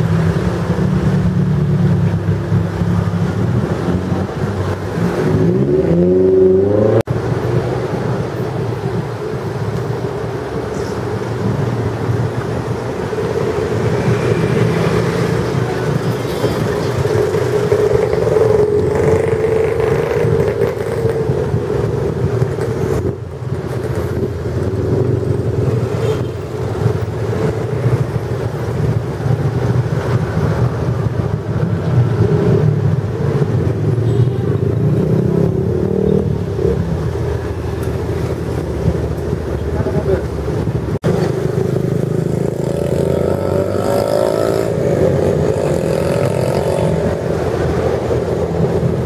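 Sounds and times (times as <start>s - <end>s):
cars passing: 0.0s - 49.0s
motorcycles passing: 0.0s - 49.0s.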